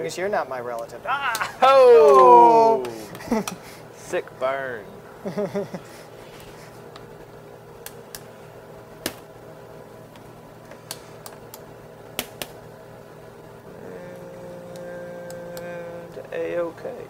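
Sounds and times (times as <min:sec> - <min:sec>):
kitchen hum: 0:00.8 - 0:17.0.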